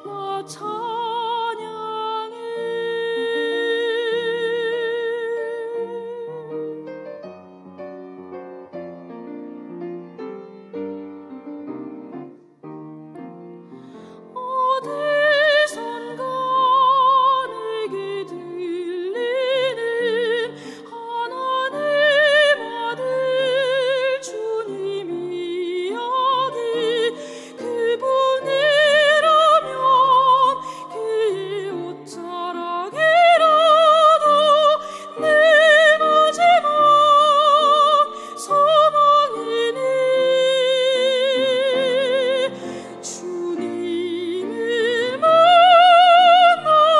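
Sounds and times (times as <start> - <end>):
soprano singing with vibrato: 0.0 - 6.9, 14.2 - 46.9
piano accompaniment: 0.0 - 46.9.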